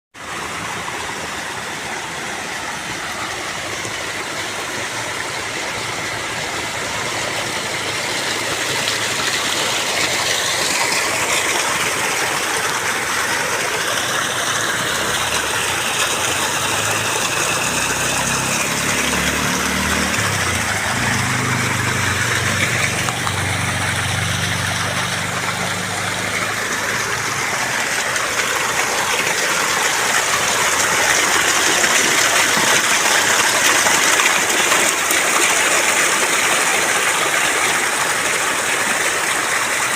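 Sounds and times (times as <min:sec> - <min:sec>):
low engine-like hum: 0:00.2 - 0:39.8
waterfall roaring: 0:00.2 - 0:39.9.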